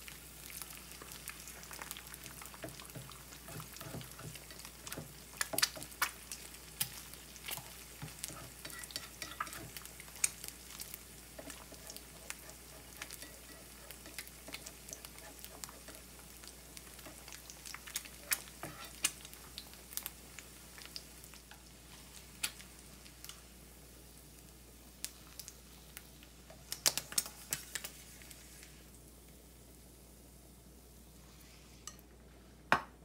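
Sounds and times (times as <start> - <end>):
eggs frying with pops and crackles: 0.0 - 31.0.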